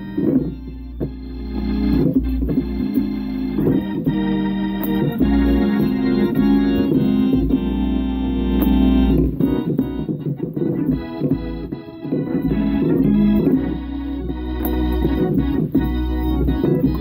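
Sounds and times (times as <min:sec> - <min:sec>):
organ playing chords: 0:00.0 - 0:17.0.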